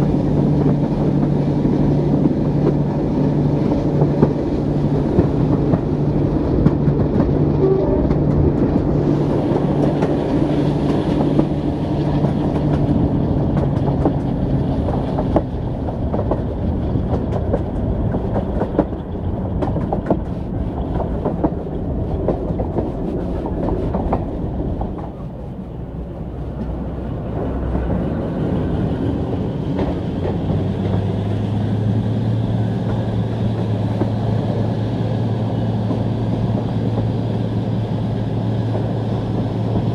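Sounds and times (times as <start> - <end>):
locomotive diesel engine hum: 0.0 - 39.9
train wheels clicking over rail joints: 0.0 - 39.9.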